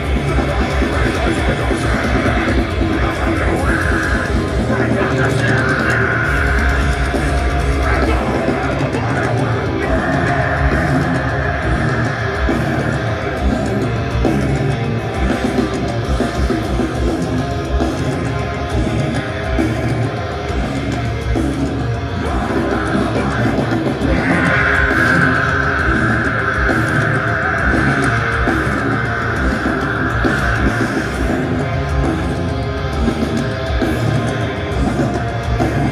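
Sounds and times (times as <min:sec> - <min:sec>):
heavy metal band playing live: 0:00.0 - 0:35.9.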